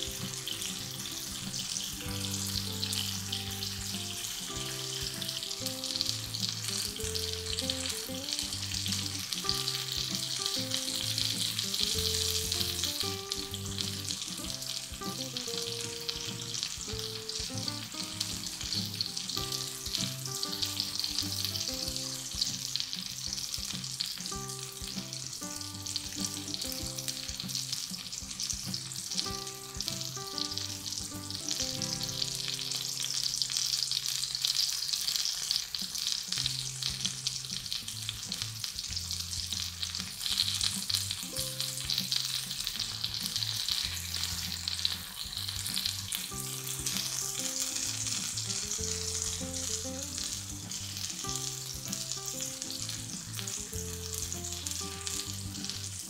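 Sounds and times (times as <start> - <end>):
background music of held notes: 0.0 - 56.0
vegetables sizzling in oil: 0.0 - 56.0.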